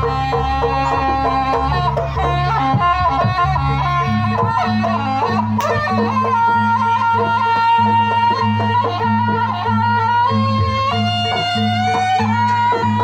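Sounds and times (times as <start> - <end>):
reed pipe melody: 0.0 - 13.0.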